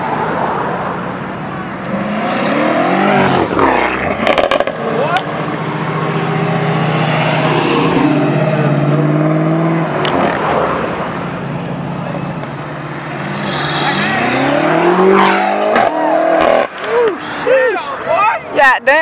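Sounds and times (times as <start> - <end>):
car engine revving: 0.4 - 17.1.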